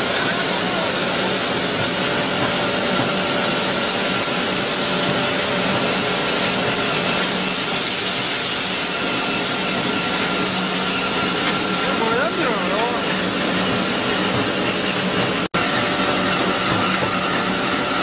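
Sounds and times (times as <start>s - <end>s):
milling machine running: 0.0s - 18.0s.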